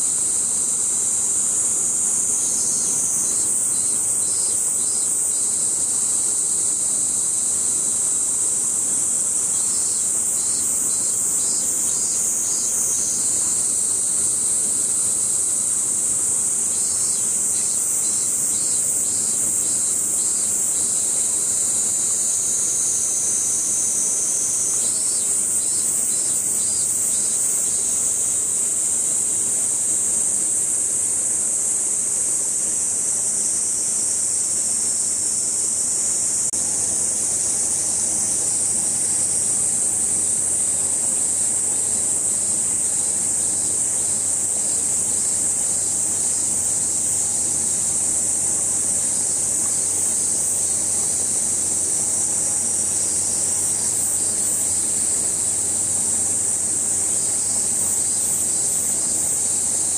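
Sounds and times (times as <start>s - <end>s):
cicada chorus drone: 0.0s - 59.9s
pulsing insect call: 0.0s - 59.9s.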